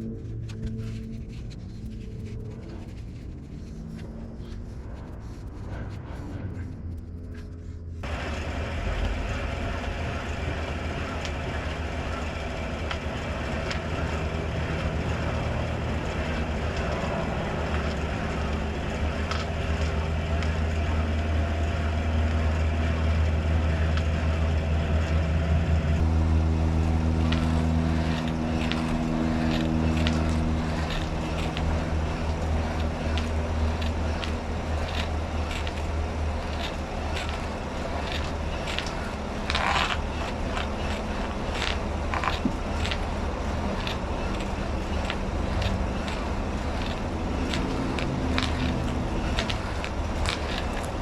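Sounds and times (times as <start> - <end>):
steady higher hum: 0.0 - 51.0
pickup engine rumble: 8.0 - 51.0.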